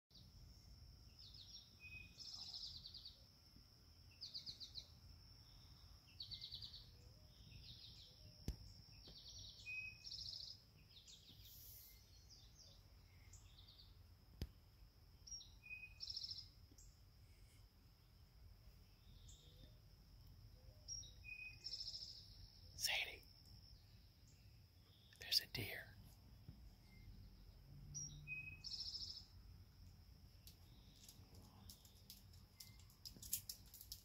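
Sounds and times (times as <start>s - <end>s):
small bird chirps: 1.1s - 3.3s, 4.0s - 14.5s, 15.2s - 17.6s, 18.8s - 29.5s, 30.3s - 34.0s.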